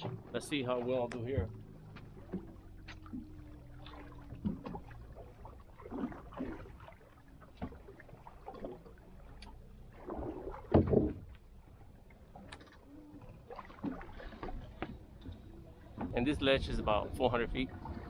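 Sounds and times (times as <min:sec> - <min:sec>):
water slapping against boat hull: 0:00.0 - 0:18.0.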